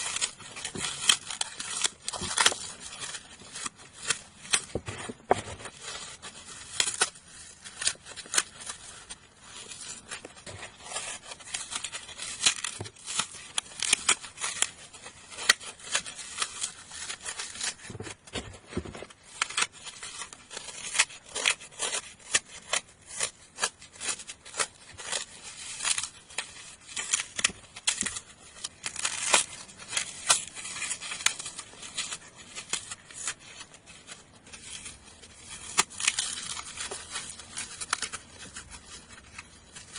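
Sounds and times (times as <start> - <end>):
floral foam crunching: 0.0 - 39.9.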